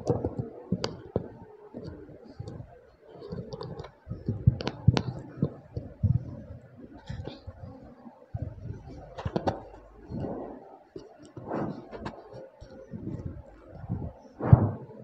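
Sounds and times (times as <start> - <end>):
microphone handling clicks and thumps: 0.0 - 7.8, 8.4 - 14.9.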